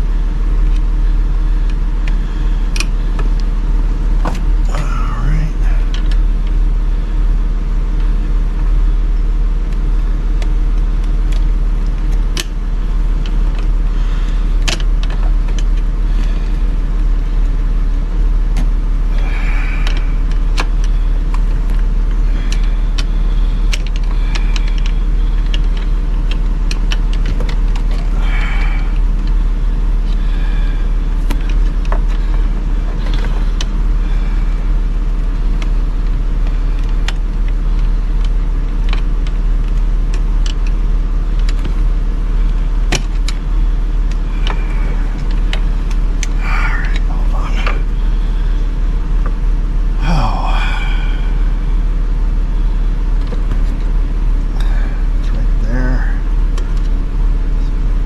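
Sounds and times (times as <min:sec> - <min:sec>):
steady low drone: 0:00.0 - 0:58.0.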